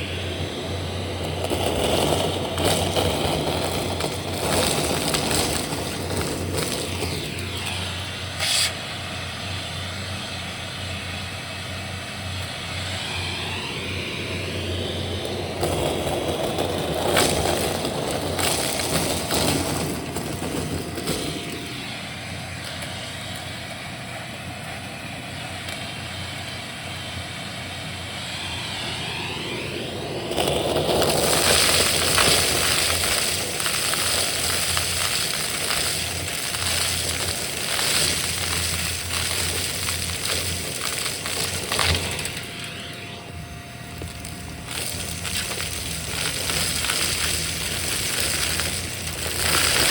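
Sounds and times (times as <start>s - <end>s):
debris crackling in vacuum: 0.0s - 24.2s, 27.2s - 49.9s
vacuum cleaner running: 0.0s - 49.9s.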